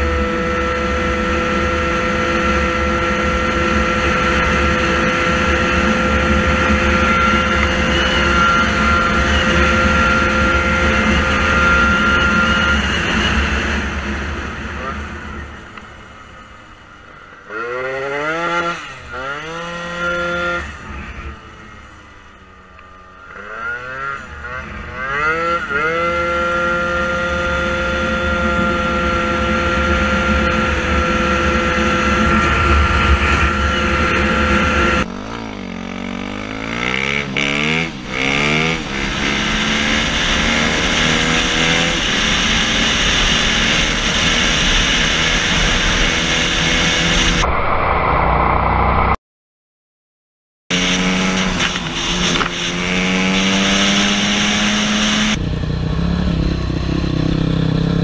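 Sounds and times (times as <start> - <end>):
motorbike engine revving through gears: 0.0 - 15.9, 17.2 - 47.5, 50.7 - 58.0
dirt bike engine accelerating: 0.0 - 49.2, 50.7 - 58.0.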